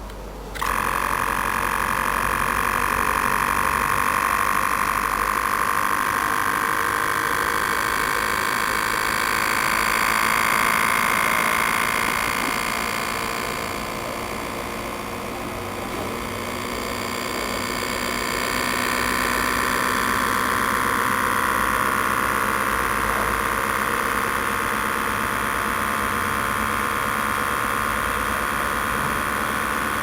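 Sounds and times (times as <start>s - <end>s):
small electric motor whirring: 0.0s - 30.0s.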